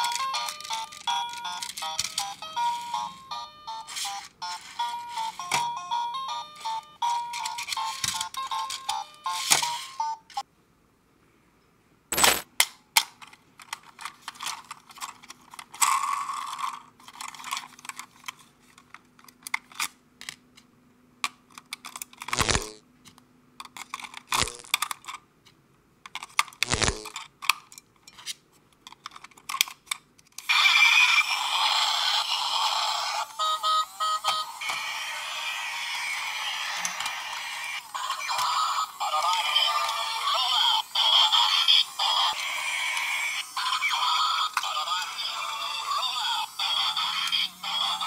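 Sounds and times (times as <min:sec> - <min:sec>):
plastic toy being handled: 0:00.0 - 0:03.2, 0:03.8 - 0:05.8, 0:06.5 - 0:10.0, 0:12.1 - 0:30.8, 0:34.2 - 0:48.0.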